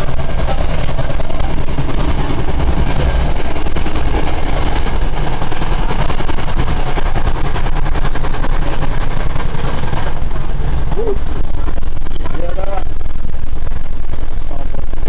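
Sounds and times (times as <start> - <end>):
rattling and clicking: 0.0 - 15.0
train wheels rumbling on track: 0.0 - 15.0.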